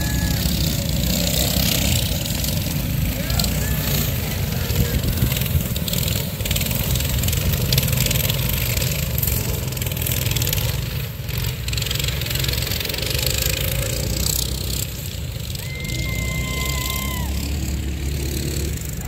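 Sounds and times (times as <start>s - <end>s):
minibike engines racing: 0.0s - 19.0s.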